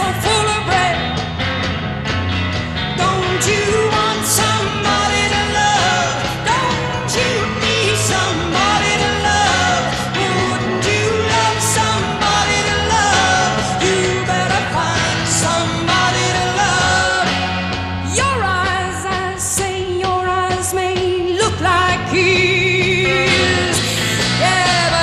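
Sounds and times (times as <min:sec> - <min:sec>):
woman singing lead vocal: 0:00.0 - 0:01.3, 0:02.9 - 0:25.0
psychedelic rock band playing: 0:00.0 - 0:25.0.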